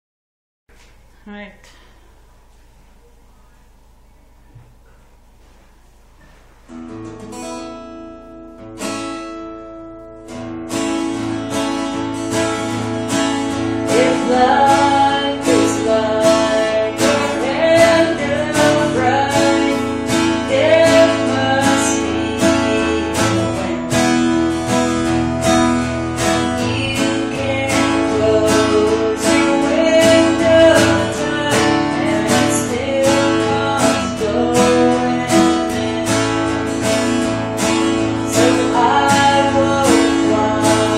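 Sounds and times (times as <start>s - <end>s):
acoustic guitar strumming: 4.8s - 40.9s.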